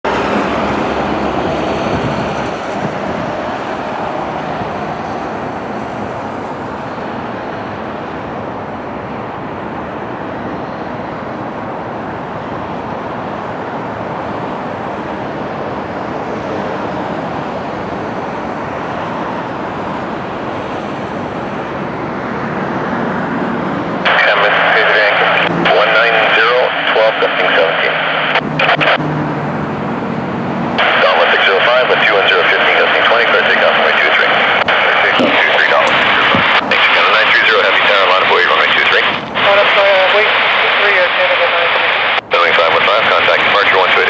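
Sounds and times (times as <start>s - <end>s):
distant jet airliner roar: 0.0s - 44.0s.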